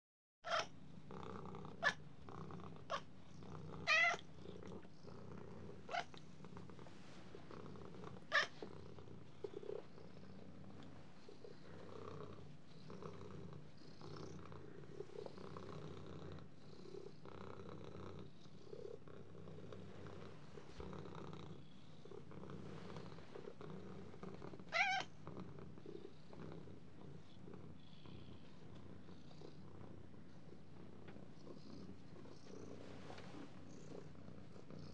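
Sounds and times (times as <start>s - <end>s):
cat purring: 0.5s - 34.9s.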